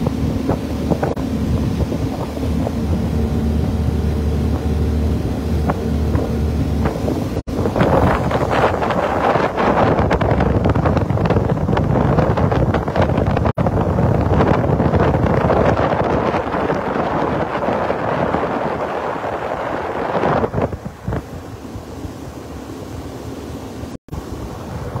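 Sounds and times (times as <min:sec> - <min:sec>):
boat hull through water: 0:00.0 - 0:25.0
wind buffeting microphone: 0:00.0 - 0:25.0.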